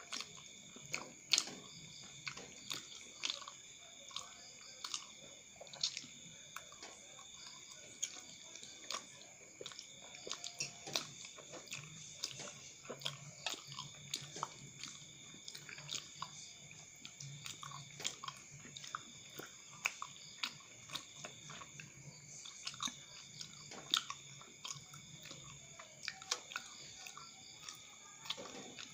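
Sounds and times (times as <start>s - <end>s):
chewing and biting: 0.0s - 28.9s
wet mouth clicks and smacks: 0.0s - 28.9s.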